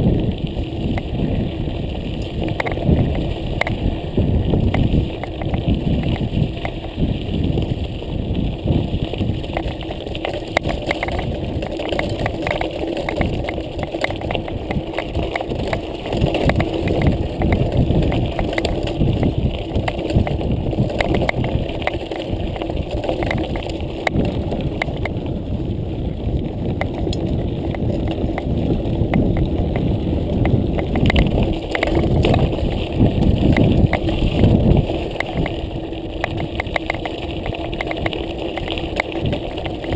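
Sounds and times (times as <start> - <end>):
bike rattling: 0.0 - 39.9
bike tyres crunching on gravel: 0.0 - 39.9
wind on microphone: 0.0 - 39.9.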